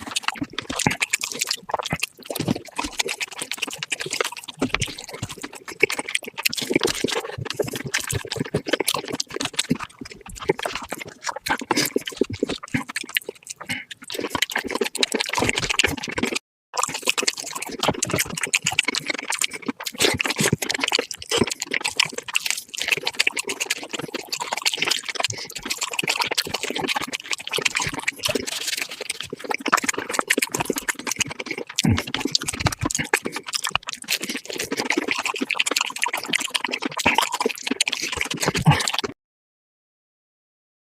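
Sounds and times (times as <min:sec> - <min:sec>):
sped-up crunching and chewing: 0:00.0 - 0:39.2
wet mouth clicks: 0:00.0 - 0:39.2.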